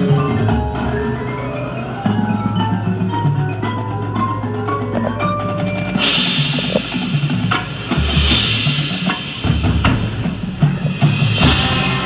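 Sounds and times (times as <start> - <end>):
drums and percussion: 0.0 - 12.0
marching band playing: 0.0 - 12.0.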